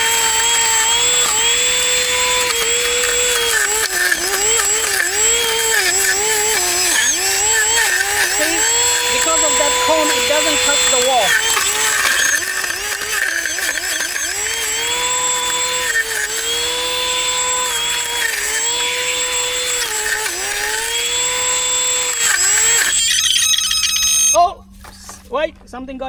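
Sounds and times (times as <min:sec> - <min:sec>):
grass stems being cut: 0:00.0 - 0:23.5
drone motor whine: 0:00.0 - 0:24.4.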